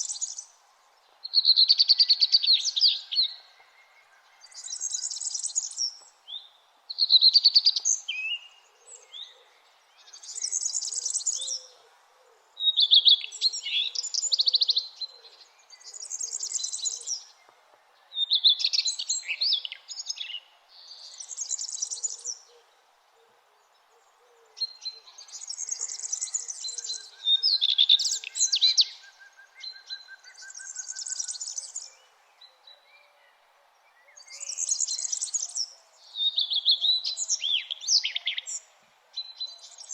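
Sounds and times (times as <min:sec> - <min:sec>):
faint steady background hiss: 0:00.0 - 0:39.9
songbirds singing: 0:00.0 - 0:39.9.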